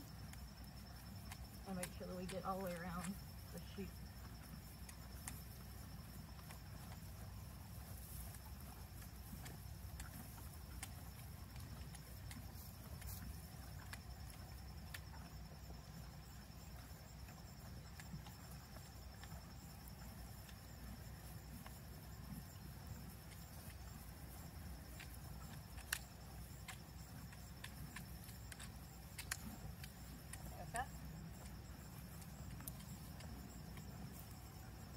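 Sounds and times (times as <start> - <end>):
hoof pick scraping and clicking: 0.0 - 34.9.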